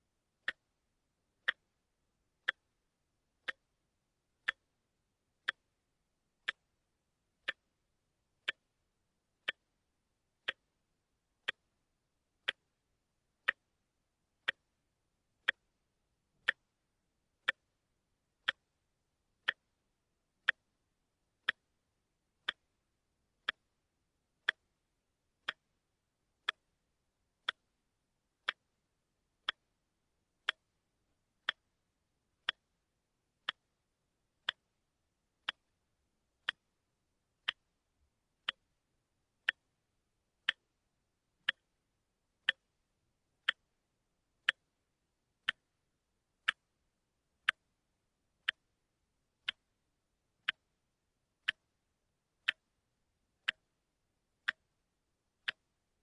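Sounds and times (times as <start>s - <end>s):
wristwatch ticking: 0.0s - 56.0s.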